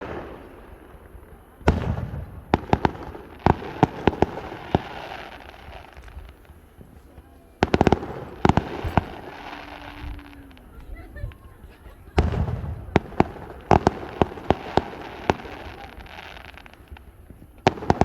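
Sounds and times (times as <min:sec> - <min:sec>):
crackling cluster of bangs: 0:00.0 - 0:18.0
fireworks bursting: 0:00.0 - 0:18.0.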